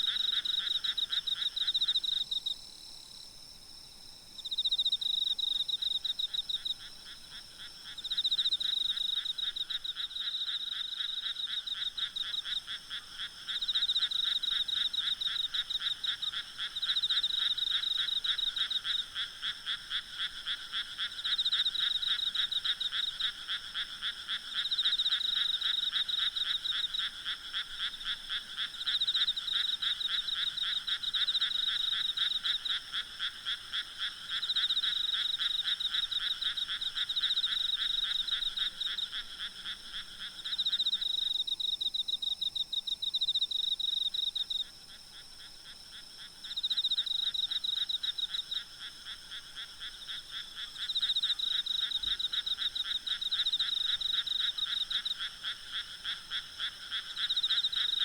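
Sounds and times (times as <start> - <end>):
frogs croaking: 0.0 - 2.6, 4.4 - 58.0
insects trilling: 4.4 - 58.0.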